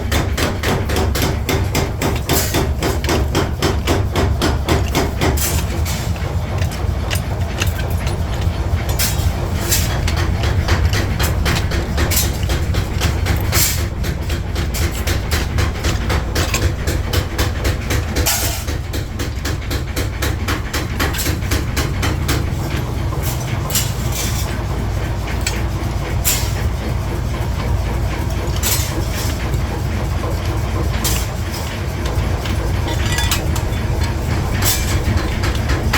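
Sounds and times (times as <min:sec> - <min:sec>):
machinery low hum: 0:00.0 - 0:35.9
metallic knocks and clatter: 0:00.0 - 0:35.9.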